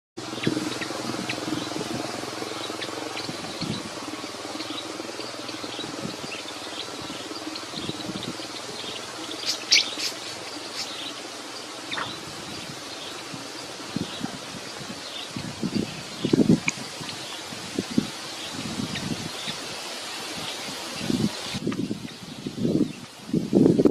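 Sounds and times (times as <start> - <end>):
small birds chirping: 0.2 - 23.2.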